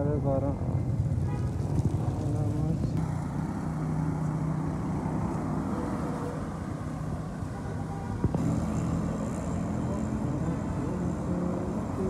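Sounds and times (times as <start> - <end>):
vehicle engine humming: 0.0 - 12.0
wet road noise: 0.0 - 12.0.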